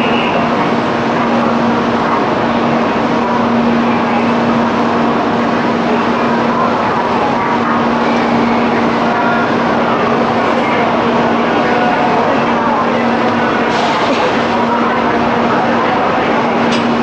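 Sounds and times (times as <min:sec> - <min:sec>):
loud fan-like train equipment noise: 0:00.0 - 0:17.0.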